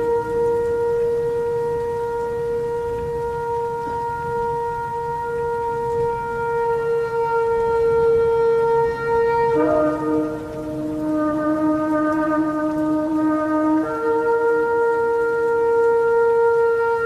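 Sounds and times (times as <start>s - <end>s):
ram's horn blowing: 0.0s - 17.0s.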